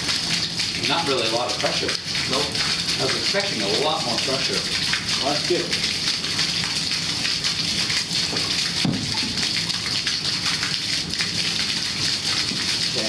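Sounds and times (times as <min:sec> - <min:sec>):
water rushing from pipe: 0:00.0 - 0:13.0
water splashing into plastic bin: 0:00.0 - 0:13.0.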